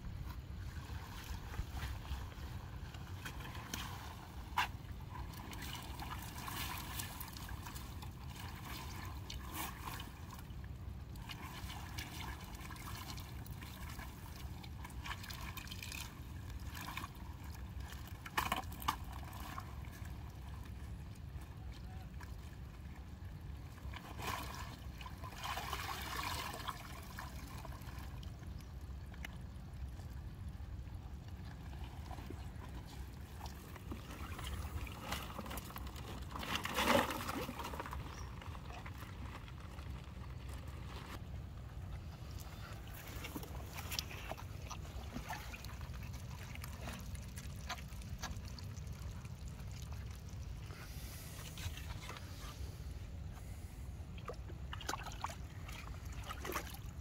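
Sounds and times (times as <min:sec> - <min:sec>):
water dripping and sloshing off net: 0:00.7 - 0:30.3, 0:31.1 - 0:41.2, 0:42.3 - 0:52.6, 0:54.1 - 0:57.0.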